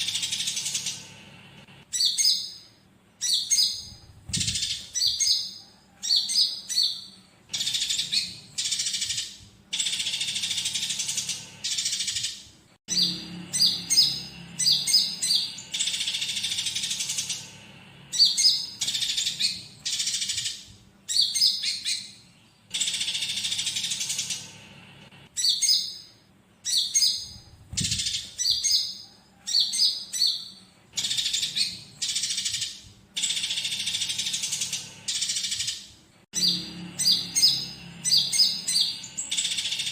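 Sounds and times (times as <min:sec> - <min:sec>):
bird chirps and harsh trills: 0:00.0 - 0:39.9.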